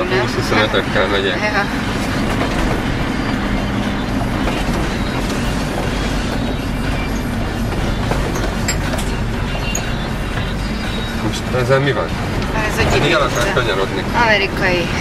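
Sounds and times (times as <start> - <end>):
car engine and tyres on slush: 0.0 - 15.0.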